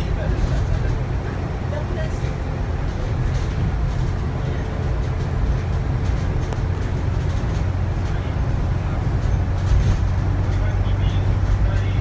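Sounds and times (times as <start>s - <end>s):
bus engine low rumble: 0.0s - 12.0s
faint interior rattles: 0.0s - 12.0s.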